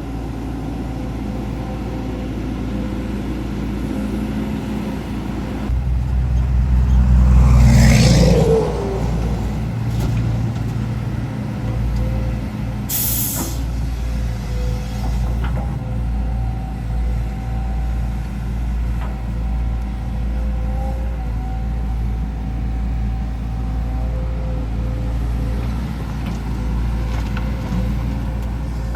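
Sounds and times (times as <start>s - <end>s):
dump truck engine running: 0.0s - 28.9s
excavator diesel engine running: 0.0s - 28.9s.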